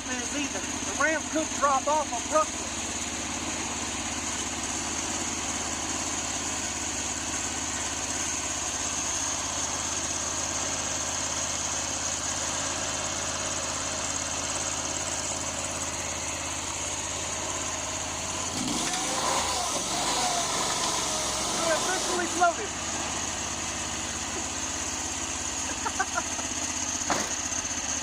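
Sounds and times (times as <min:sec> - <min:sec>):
small gasoline engine idling: 0:00.0 - 0:28.0.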